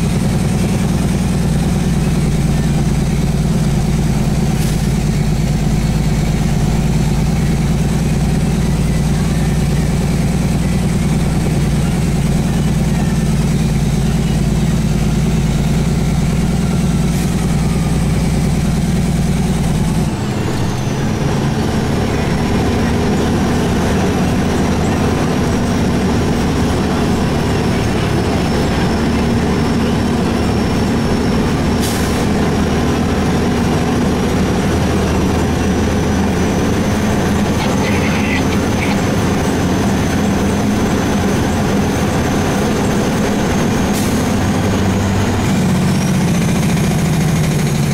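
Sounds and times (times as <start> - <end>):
road and cab rattle: 0.0 - 47.9
truck engine drone: 0.0 - 47.9.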